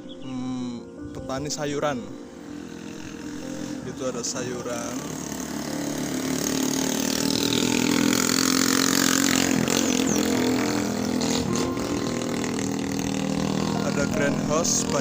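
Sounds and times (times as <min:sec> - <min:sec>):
vehicle engine humming: 0:01.8 - 0:15.0.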